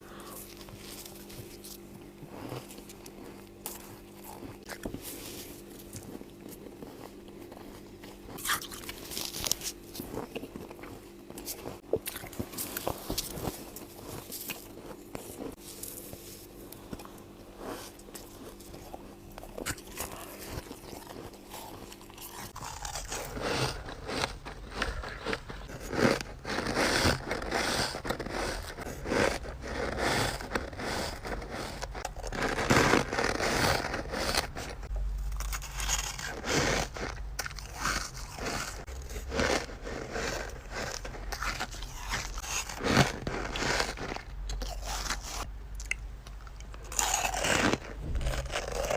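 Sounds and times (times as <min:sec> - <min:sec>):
steady low hum: 0:00.0 - 0:48.9
crunching frost between teeth: 0:00.1 - 0:48.9.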